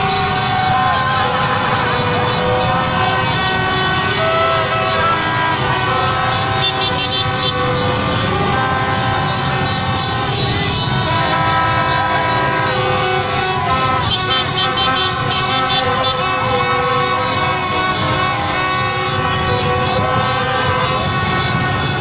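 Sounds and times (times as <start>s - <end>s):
many vehicle horns honking: 0.0s - 22.0s
motorbike engines running: 0.0s - 22.0s.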